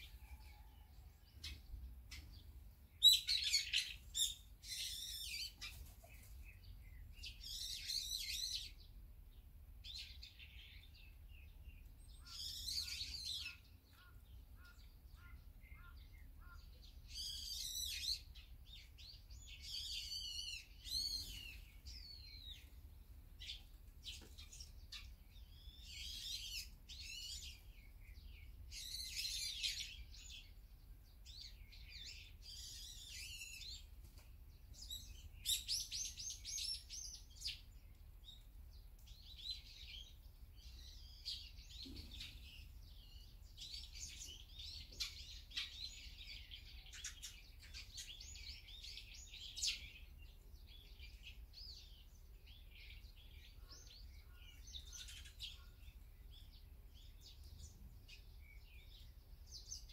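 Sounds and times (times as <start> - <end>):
sparrows chirping and chattering: 0.0 - 59.9.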